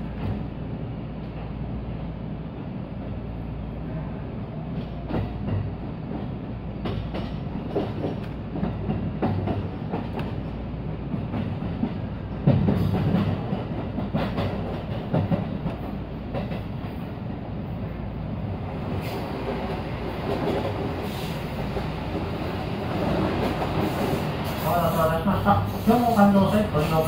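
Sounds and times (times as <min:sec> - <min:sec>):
train rumbling on track: 0:00.0 - 0:27.0.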